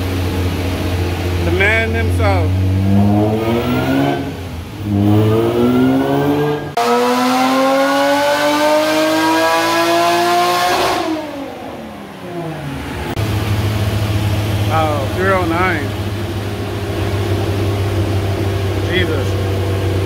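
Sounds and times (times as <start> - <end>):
engine revving at full throttle: 0.0 - 20.0.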